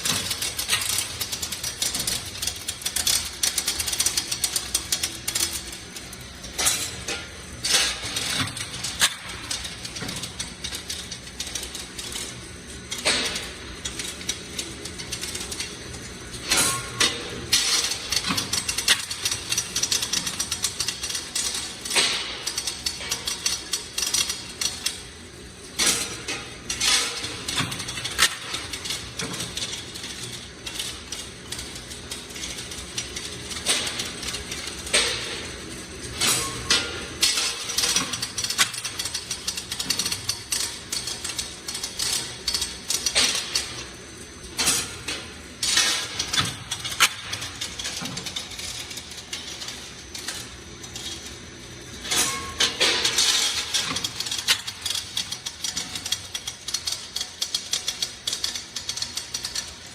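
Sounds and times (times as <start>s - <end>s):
rods and machine parts clattering: 0.0s - 59.9s.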